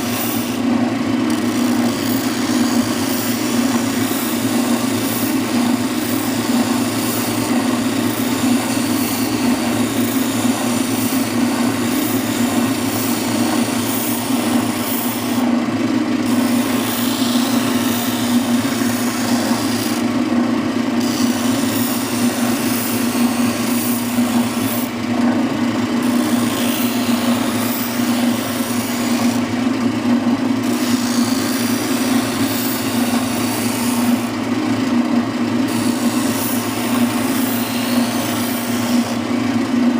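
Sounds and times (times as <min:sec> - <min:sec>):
wood rubbing on sanding spindle: 0:00.0 - 0:00.6, 0:01.4 - 0:15.5, 0:16.2 - 0:20.1, 0:21.0 - 0:25.0, 0:26.0 - 0:29.5, 0:30.6 - 0:34.4, 0:35.6 - 0:39.2
sander motor hum: 0:00.0 - 0:39.9.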